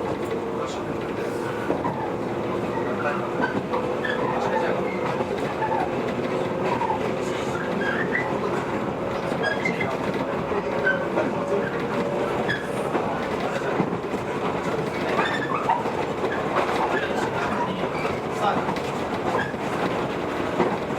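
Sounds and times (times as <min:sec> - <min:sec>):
rail joint clicks: 0:00.0 - 0:20.9
train wheels rumbling on rail: 0:00.0 - 0:20.9.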